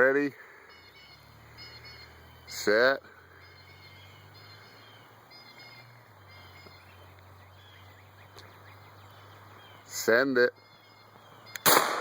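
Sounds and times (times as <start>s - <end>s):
small birds chirping: 0.0s - 11.9s
low outdoor hum: 0.0s - 12.0s.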